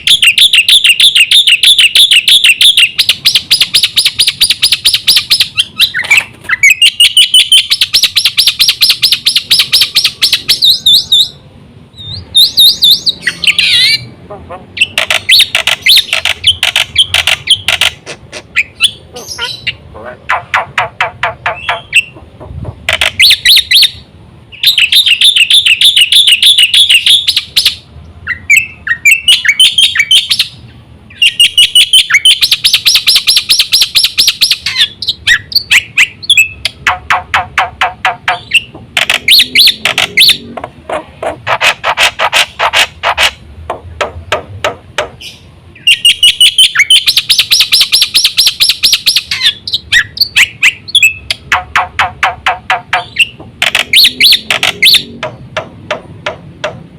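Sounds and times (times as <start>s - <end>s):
myna singing chirps and trills: 0.0s - 43.5s, 45.2s - 56.8s.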